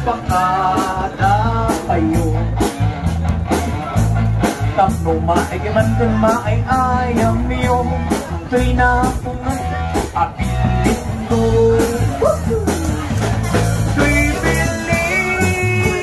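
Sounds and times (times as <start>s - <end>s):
person singing: 0.0s - 2.8s, 4.7s - 16.0s
live band playing dance song: 0.0s - 16.0s.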